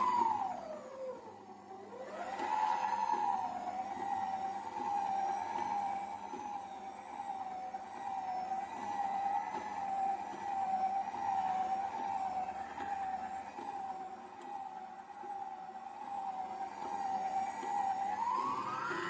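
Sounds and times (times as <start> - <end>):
stand mixer motor whine: 0.0 - 19.0.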